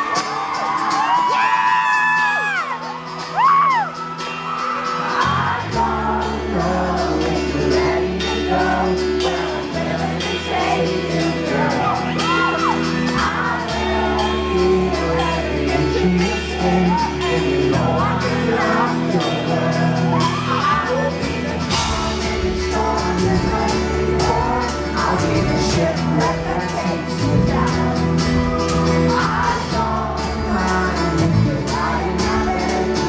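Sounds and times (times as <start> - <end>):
bass line: 5.0 - 33.0
man singing: 5.1 - 33.0.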